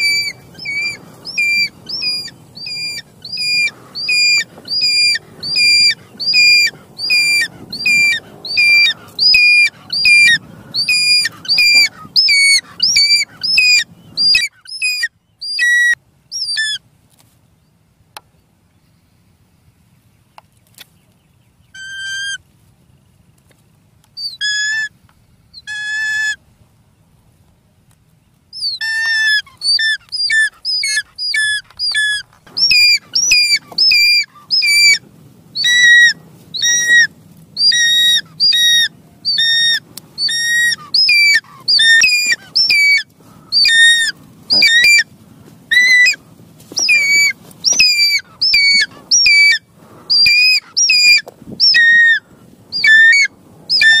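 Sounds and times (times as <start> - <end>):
hawk-eagle shrill calls: 0.0 - 16.8, 21.8 - 22.4, 24.2 - 25.0, 25.6 - 26.4, 28.6 - 35.0, 35.6 - 45.1, 45.7 - 54.0.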